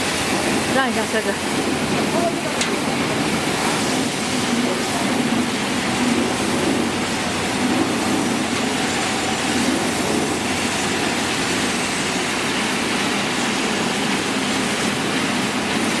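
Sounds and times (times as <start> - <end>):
motor and conveyor noise: 0.0 - 16.0
water spray: 0.0 - 16.0.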